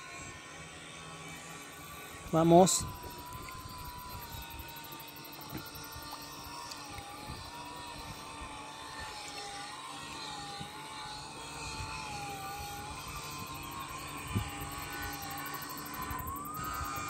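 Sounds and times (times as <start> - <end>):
distant engine droning: 0.0 - 17.0.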